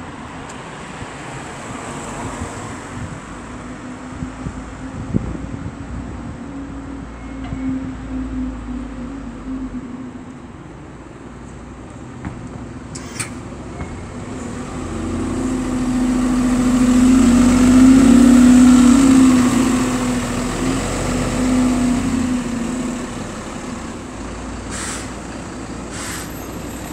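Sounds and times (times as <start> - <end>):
diesel bus engine drone: 0.0 - 26.9.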